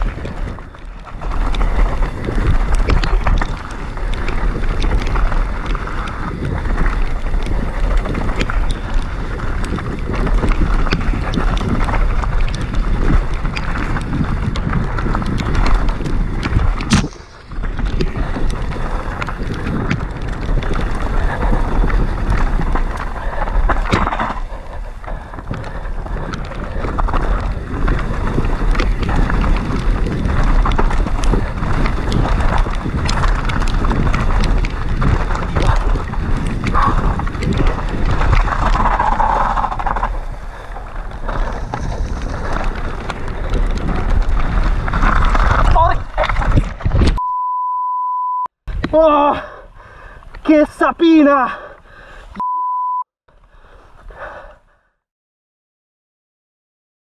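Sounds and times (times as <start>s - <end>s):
bike rattling and knocking: 0.0s - 47.2s
bike tyres on dirt: 0.0s - 47.2s, 48.7s - 52.4s, 53.3s - 54.8s
wind buffeting microphone: 0.0s - 47.2s.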